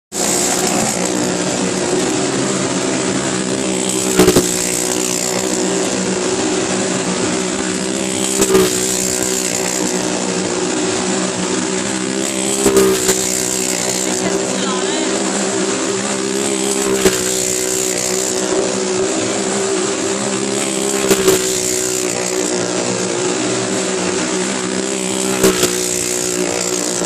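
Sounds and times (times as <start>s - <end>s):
motor vehicle engine running: 0.0s - 27.0s.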